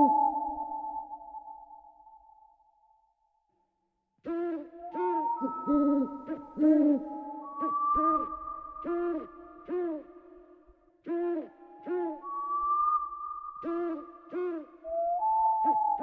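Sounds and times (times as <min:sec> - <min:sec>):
owl-like hooting: 0:00.0 - 0:02.6, 0:04.3 - 0:16.0.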